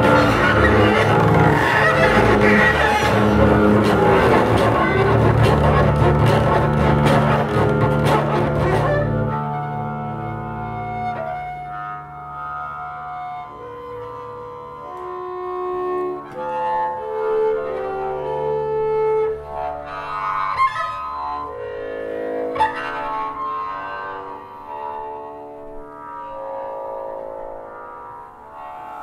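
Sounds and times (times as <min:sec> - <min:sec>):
double basses bowed: 0:00.0 - 0:29.0.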